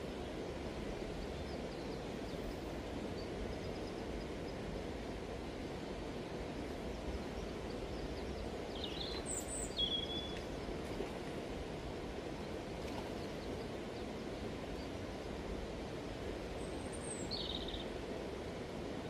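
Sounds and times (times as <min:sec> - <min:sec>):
river water flowing over stones: 0:00.0 - 0:19.0.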